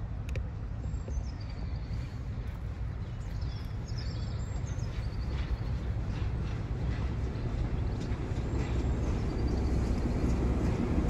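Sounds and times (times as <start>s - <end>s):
distant train rumble: 0.0s - 11.0s.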